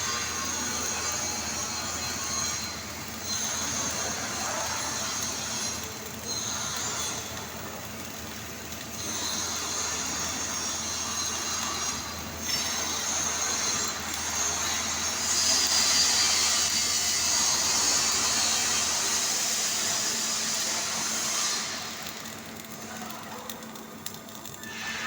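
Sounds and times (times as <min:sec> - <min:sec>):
welder arc crackling and hissing: 0:00.0 - 0:25.0.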